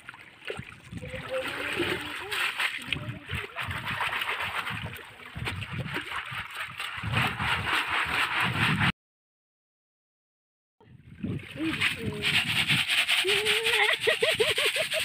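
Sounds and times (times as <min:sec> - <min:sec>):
water splashing and gurgling: 0:00.0 - 0:08.8, 0:11.0 - 0:15.0.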